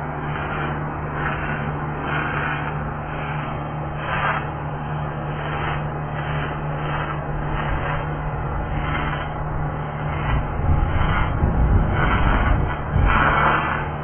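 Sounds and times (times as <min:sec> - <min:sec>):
steady low hum: 0:00.0 - 0:14.0
welding arc crackling and hissing: 0:00.0 - 0:14.0.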